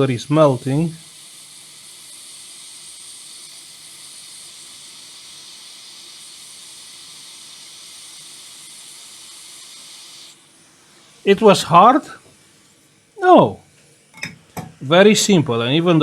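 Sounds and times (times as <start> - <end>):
hot air station hissing: 0.0 - 16.0.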